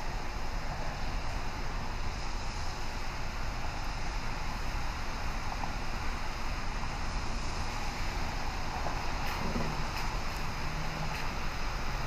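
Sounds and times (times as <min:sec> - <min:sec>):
rain hissing: 0:00.0 - 0:12.0
wind noise on microphone: 0:00.0 - 0:12.0.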